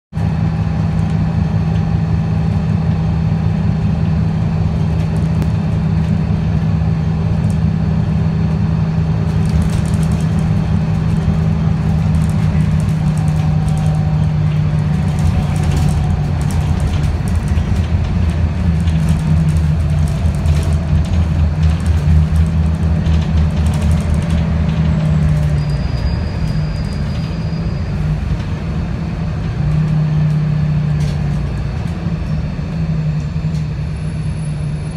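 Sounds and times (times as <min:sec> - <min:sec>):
bus engine drone: 0:00.1 - 0:34.9
road noise: 0:00.1 - 0:34.9.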